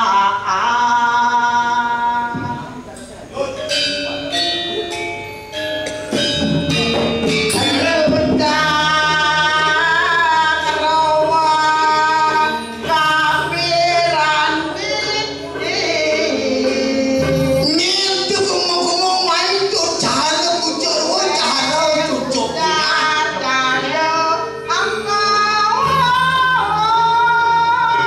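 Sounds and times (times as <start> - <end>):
person singing long wavering line: 0.0 - 2.8, 7.5 - 28.0
struck metallic notes ringing: 1.8 - 28.0.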